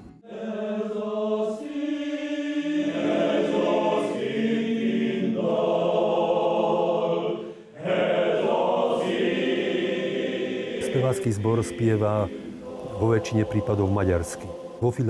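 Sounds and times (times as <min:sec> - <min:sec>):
choir singing slow song: 0:00.1 - 0:15.0.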